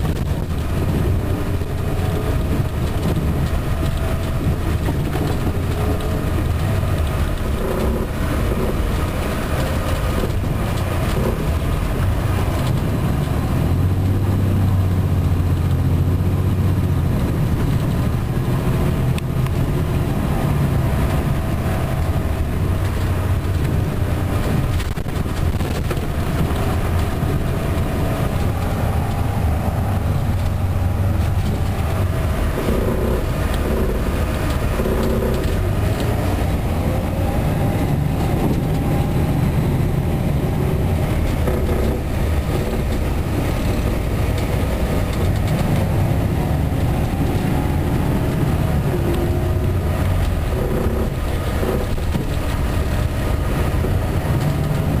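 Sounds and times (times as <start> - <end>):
diesel engine hum: 0.0 - 55.0
road noise: 0.0 - 55.0.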